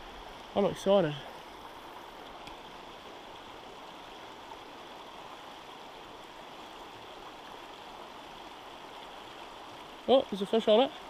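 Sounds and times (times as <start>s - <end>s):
river flowing over rocks: 0.0s - 11.0s.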